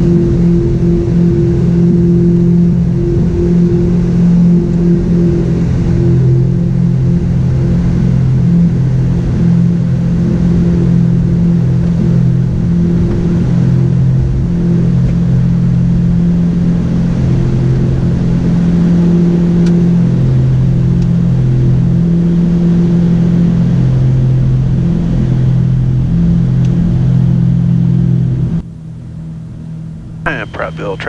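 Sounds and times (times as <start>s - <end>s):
twin propeller engines droning: 0.0s - 31.0s.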